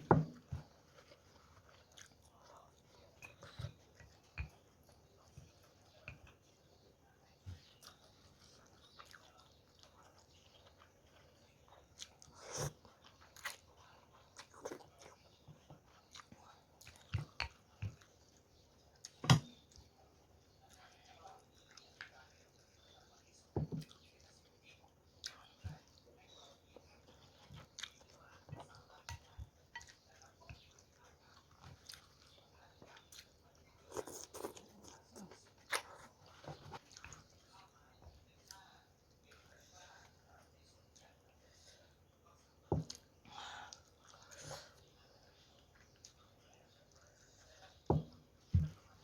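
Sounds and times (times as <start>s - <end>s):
person chewing food: 0.0s - 40.0s.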